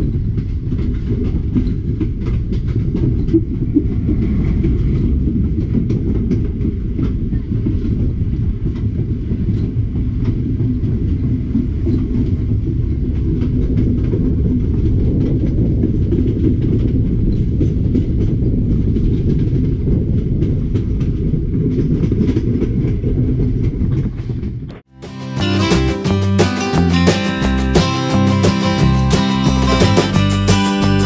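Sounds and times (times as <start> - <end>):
clickety-clack of rail joints: 0.0 - 31.0
train wheels rumbling on rail: 0.0 - 31.0.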